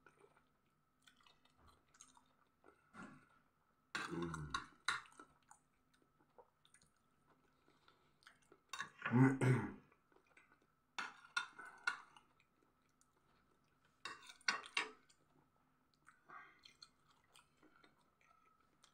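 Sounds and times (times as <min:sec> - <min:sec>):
man chewing food: 0:00.0 - 0:09.0, 0:09.9 - 0:18.9.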